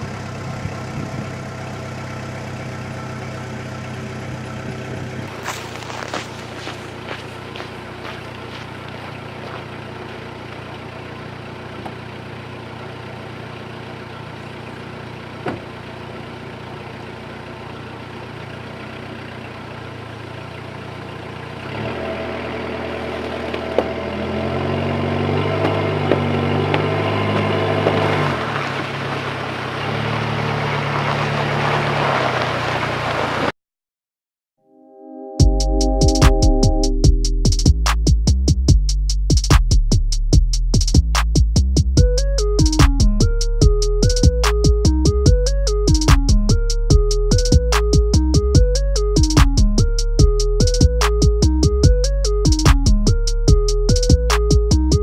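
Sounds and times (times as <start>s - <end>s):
vehicle engine idling: 0.0s - 33.5s, 35.4s - 55.0s.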